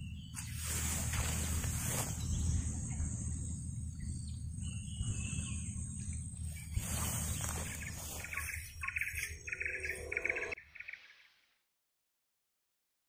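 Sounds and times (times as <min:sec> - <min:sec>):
high insect drone: 0:00.0 - 0:10.6
low rumble: 0:00.0 - 0:10.6
rapid repeated chirping call: 0:00.0 - 0:11.1.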